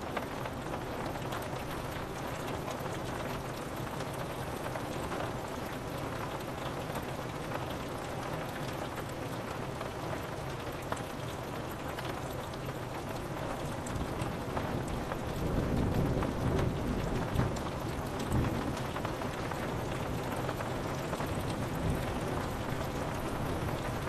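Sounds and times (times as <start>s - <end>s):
rain on a window pane: 0.0s - 24.0s.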